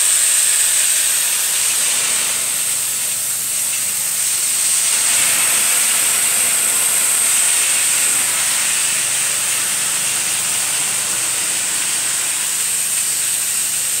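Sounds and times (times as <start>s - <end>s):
carpet cleaner suction hiss: 0.0s - 14.0s.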